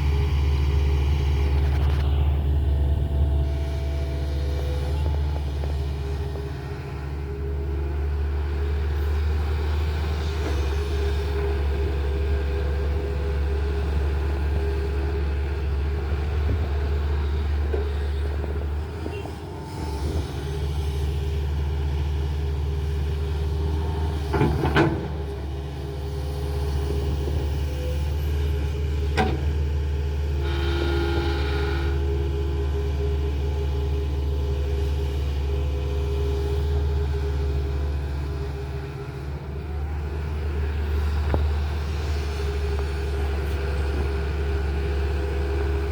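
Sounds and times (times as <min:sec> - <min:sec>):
diesel engine rumble: 0:00.0 - 0:45.9.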